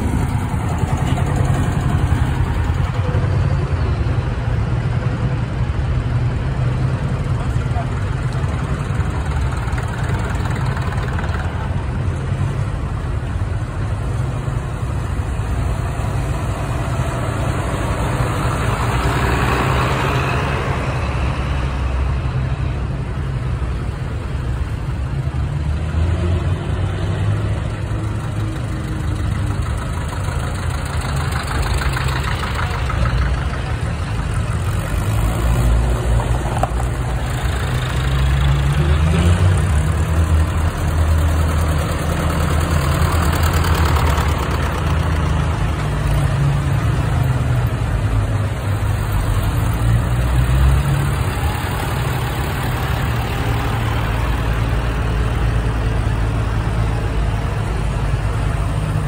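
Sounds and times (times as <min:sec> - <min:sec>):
tractor engines rumbling: 0:00.0 - 0:59.0.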